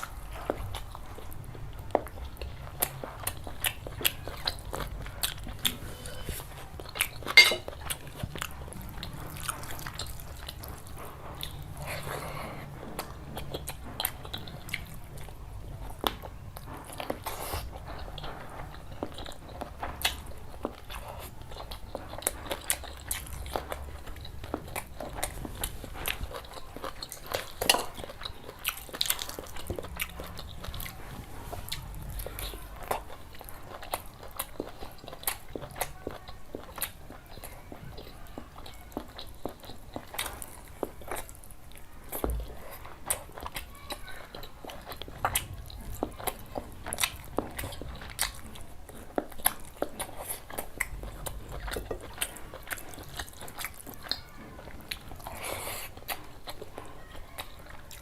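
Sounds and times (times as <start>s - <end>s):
close chewing and crunching: 0.0s - 58.0s.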